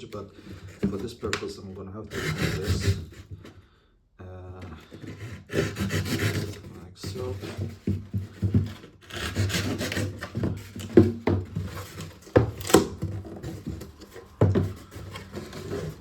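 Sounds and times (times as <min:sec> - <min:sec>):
cardboard knocks and crackles: 0:00.0 - 0:01.7, 0:04.7 - 0:16.0
knife sawing cardboard: 0:00.0 - 0:03.6, 0:04.6 - 0:16.0.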